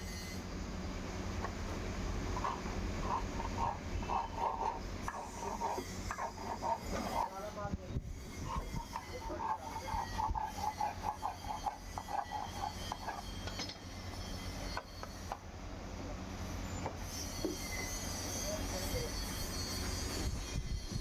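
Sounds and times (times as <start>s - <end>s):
steady low hum: 0.0s - 21.0s
rhythmic squeaky scraping: 2.3s - 15.4s, 16.4s - 21.0s.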